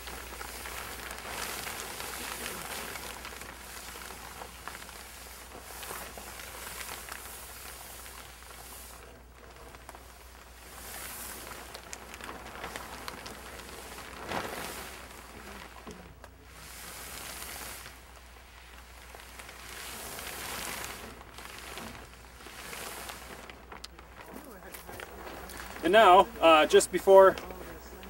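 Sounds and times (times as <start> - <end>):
plastic film rustling and crackling: 0.0 - 28.0.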